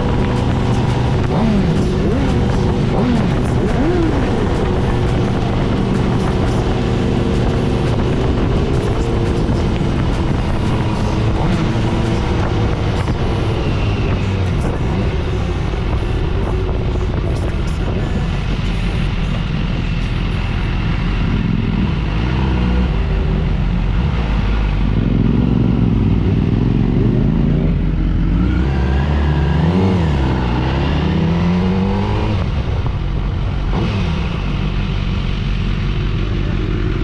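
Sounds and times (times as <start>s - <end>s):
low wind rumble: 0.0s - 37.0s
motorcycle engine revving: 0.0s - 37.0s.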